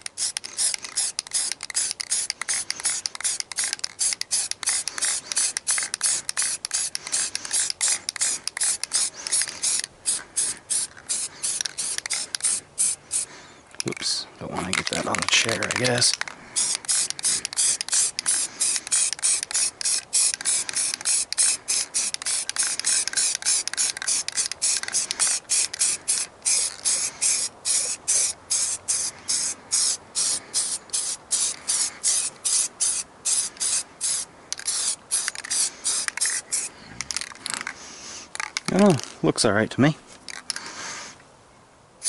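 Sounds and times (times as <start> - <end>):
spray paint can hissing: 0.0 - 13.3, 14.6 - 38.7.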